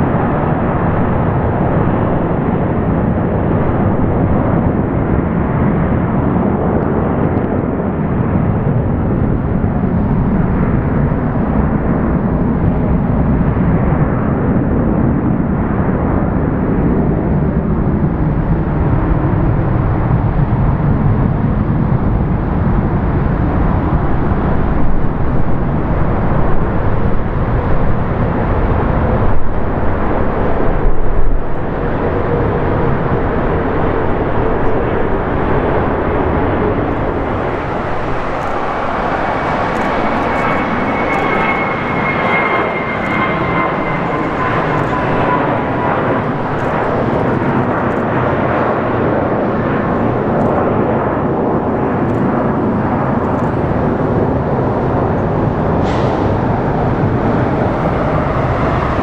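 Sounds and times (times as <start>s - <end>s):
high engine whine: 0.0s - 59.0s
jet engines rumbling: 0.0s - 59.0s.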